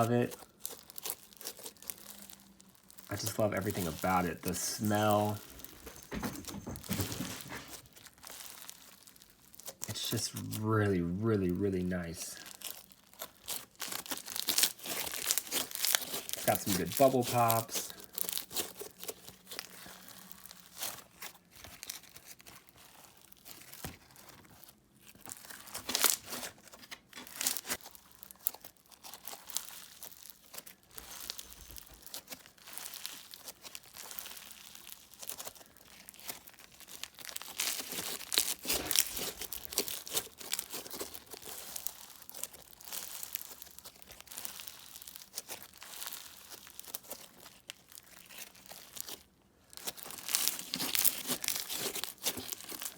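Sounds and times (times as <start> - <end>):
slime crackling and popping: 0.0 - 5.9, 7.7 - 52.9.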